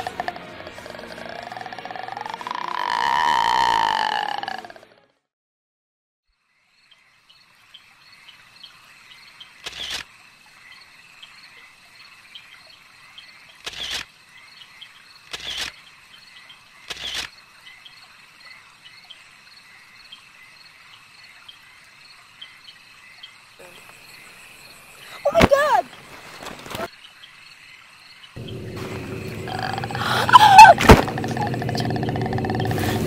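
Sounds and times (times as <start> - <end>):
crickets chirping: 6.3 - 33.0.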